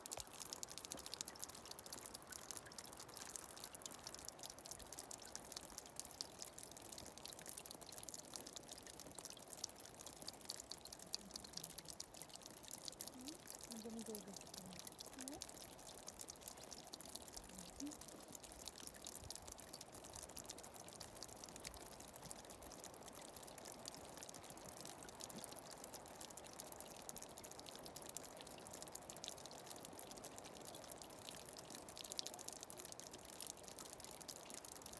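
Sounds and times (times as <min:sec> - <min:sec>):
running water: 0:00.0 - 0:34.9
tiny water drips: 0:00.0 - 0:34.9.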